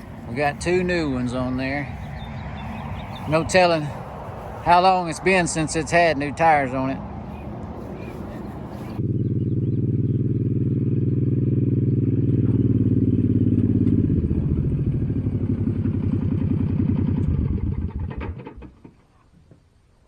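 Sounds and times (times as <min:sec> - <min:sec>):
tractor engine running: 0:00.0 - 0:10.0, 0:11.1 - 0:18.8.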